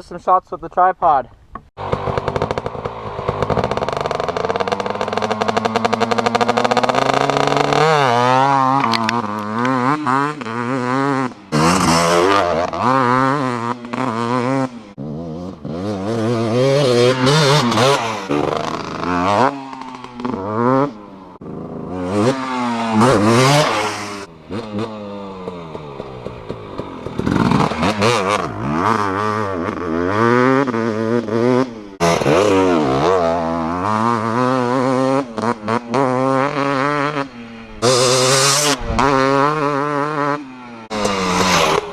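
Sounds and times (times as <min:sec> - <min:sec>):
two-stroke engine revving: 0:01.8 - 0:41.9.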